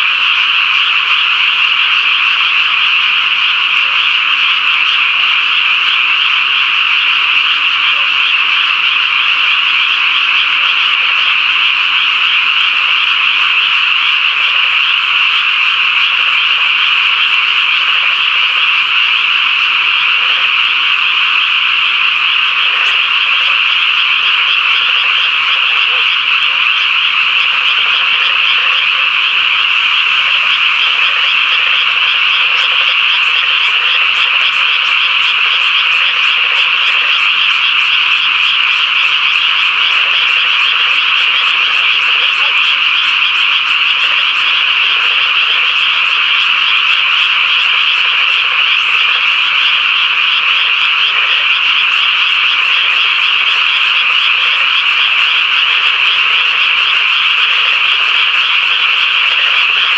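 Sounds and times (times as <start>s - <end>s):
frogs chorus trilling: 0.0s - 59.9s.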